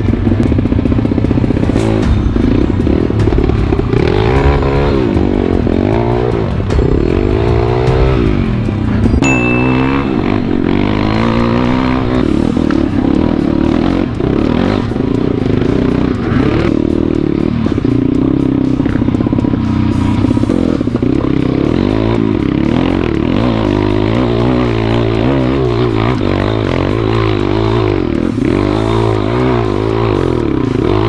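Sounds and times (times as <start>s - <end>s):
background music: 0.0s - 31.0s
motorbike engine revving: 0.0s - 31.0s.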